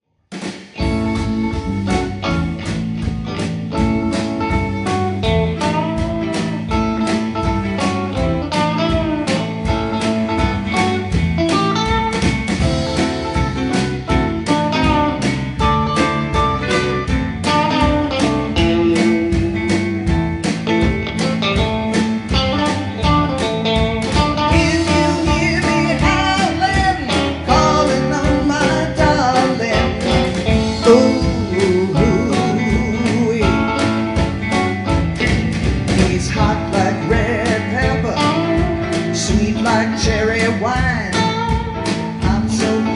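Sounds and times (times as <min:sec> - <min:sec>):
bass guitar: 0:00.3 - 0:42.9
blues band playing: 0:00.3 - 0:42.9
drums with steady beat: 0:00.3 - 0:42.9
electric guitar: 0:00.3 - 0:42.9.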